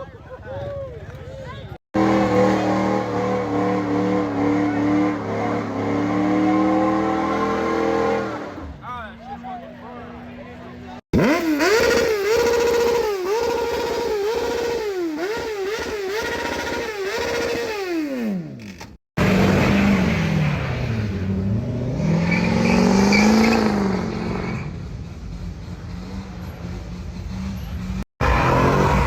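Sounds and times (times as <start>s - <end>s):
vehicle engine revving: 1.9s - 8.8s, 11.0s - 29.0s.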